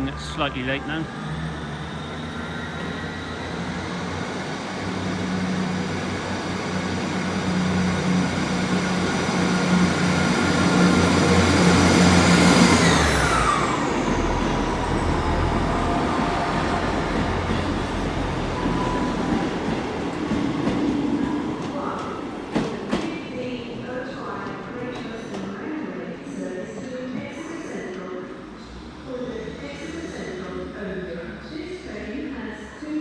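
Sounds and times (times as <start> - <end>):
diesel train engines whining: 0.0 - 32.8.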